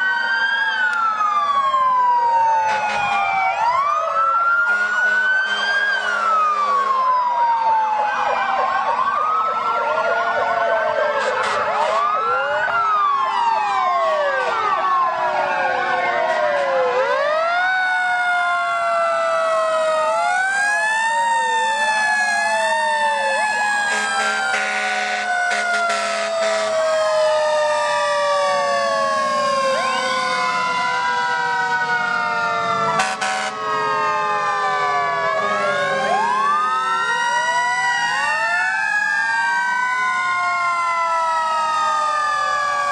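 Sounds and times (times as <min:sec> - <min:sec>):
sirens wailing: 0:00.0 - 0:42.9.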